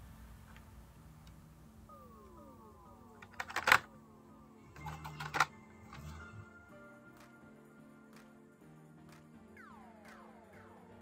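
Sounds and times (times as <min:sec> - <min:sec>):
faint electronic music: 0:00.0 - 0:11.0.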